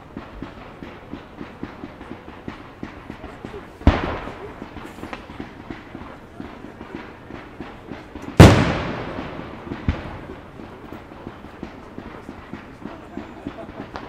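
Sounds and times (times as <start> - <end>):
firework bangs: 0.0 - 14.0
firework pops and crackles: 0.0 - 14.0.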